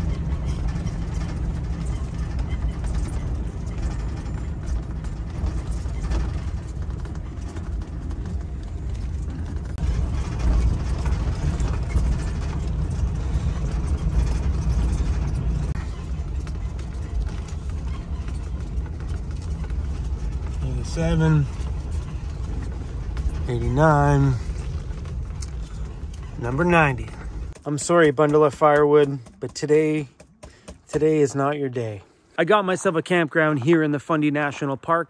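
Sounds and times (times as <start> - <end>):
tyres on gravel: 0.0 - 34.2
engine and road rumble: 0.0 - 35.0.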